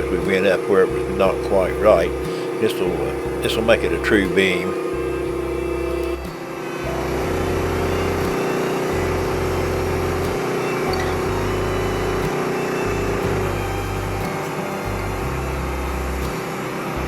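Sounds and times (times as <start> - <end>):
band sawmill cutting wood: 0.0 - 17.0.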